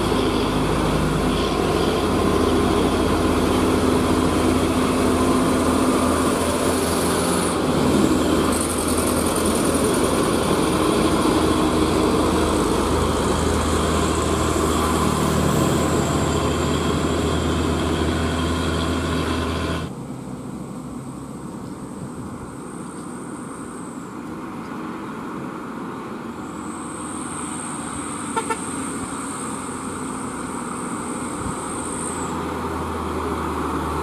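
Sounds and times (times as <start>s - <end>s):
diesel truck engine under load: 0.0s - 22.8s, 25.1s - 34.0s.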